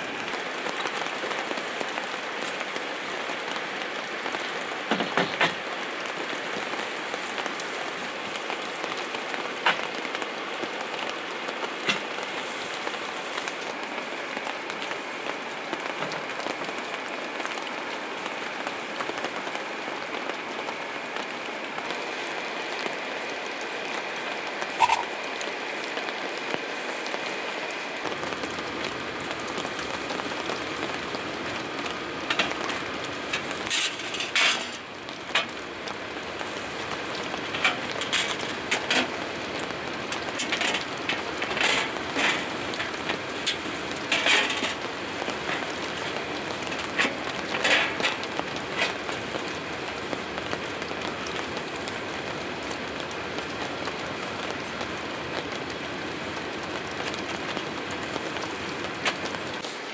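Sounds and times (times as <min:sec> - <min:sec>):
louder raindrop taps: 0:00.0 - 0:17.7, 0:24.7 - 0:27.3, 0:28.0 - 0:59.8
steady rain hiss: 0:00.0 - 0:59.9.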